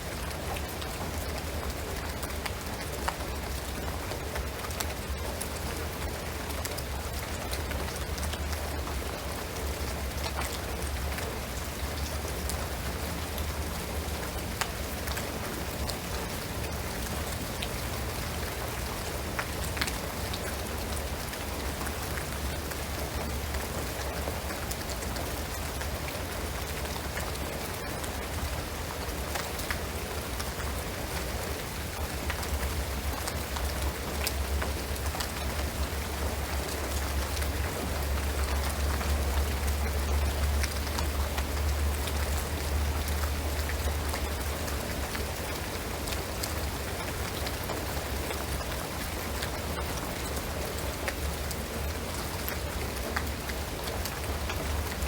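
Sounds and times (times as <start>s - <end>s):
rain on a shingled roof: 0.0s - 55.0s.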